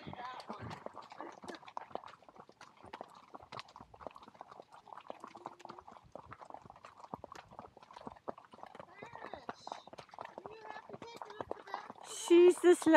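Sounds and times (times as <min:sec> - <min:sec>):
horse hooves on gravel: 0:00.0 - 0:12.9.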